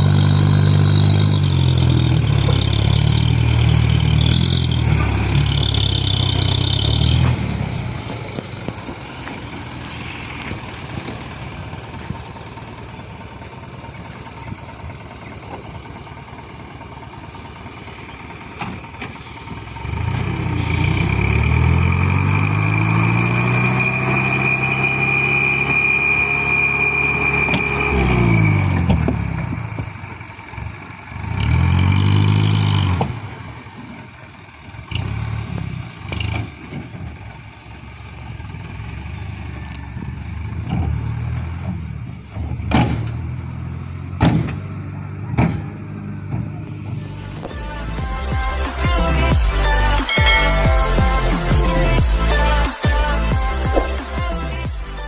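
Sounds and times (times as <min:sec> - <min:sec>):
thin engine whine: 0:00.0 - 0:34.1, 0:38.4 - 0:55.0
diesel truck engine revving: 0:00.0 - 0:55.0.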